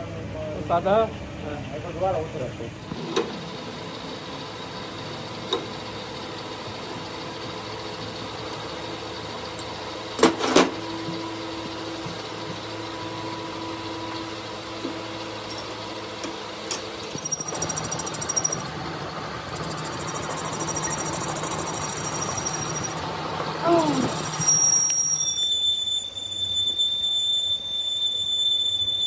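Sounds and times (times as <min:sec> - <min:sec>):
machine running steadily: 0:00.0 - 0:25.4
machine with high thin whine: 0:00.0 - 0:29.0.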